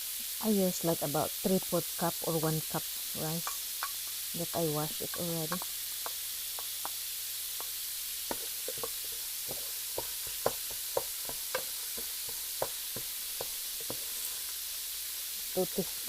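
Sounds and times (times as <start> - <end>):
rice sizzling in a pot: 0.0 - 16.0.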